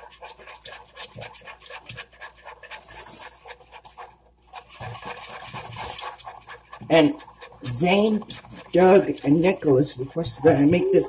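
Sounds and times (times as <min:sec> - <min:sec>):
utensil stirring and scraping bowl: 0:00.0 - 0:11.0.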